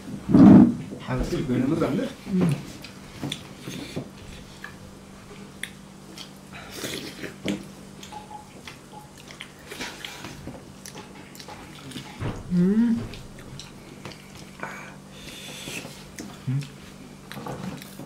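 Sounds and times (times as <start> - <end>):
faint low hum: 0.0 - 18.0
chewing: 2.5 - 12.2, 13.1 - 18.0.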